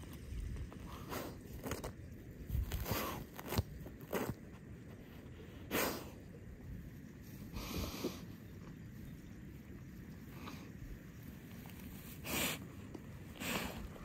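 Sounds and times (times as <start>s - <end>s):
dog digging in dirt: 0.0s - 8.7s, 10.3s - 14.0s.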